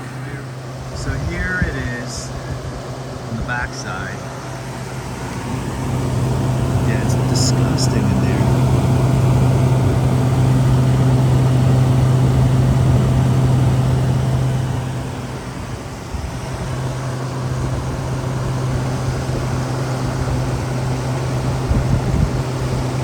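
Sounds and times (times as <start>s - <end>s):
window air conditioner running: 0.0s - 23.0s.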